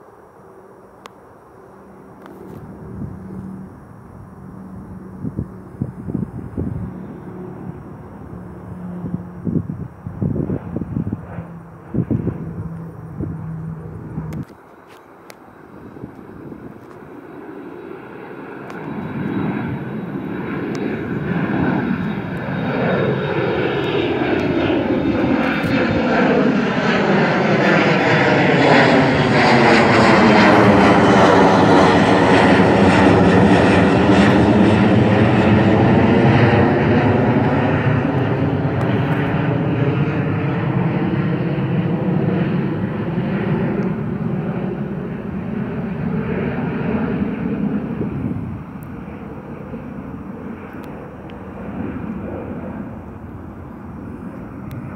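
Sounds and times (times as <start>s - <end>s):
jet airliner engine roar: 0.0s - 54.9s.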